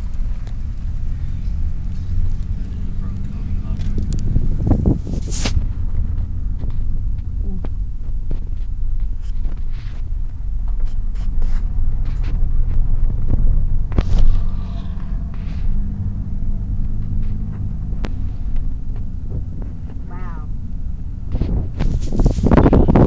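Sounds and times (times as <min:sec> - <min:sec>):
road rumble inside car: 0:00.0 - 0:23.0.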